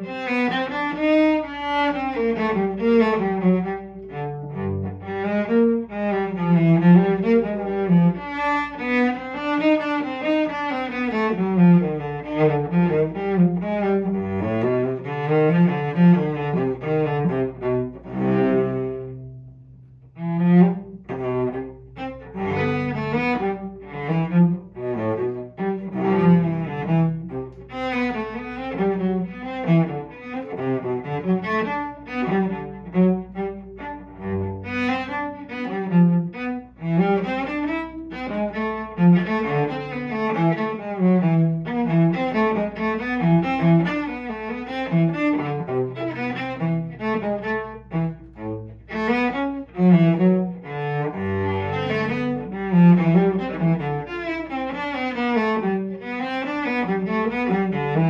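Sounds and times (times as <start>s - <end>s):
solo cello bowed: 0.0s - 58.0s.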